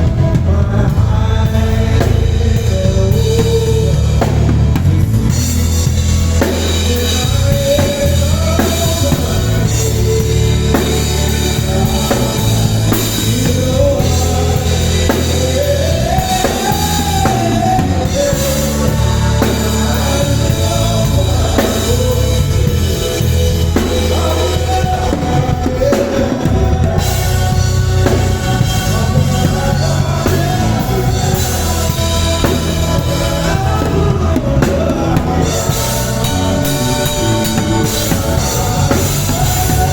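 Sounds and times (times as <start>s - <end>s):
heavy bass: 0.0s - 39.9s
live band playing: 0.0s - 39.9s.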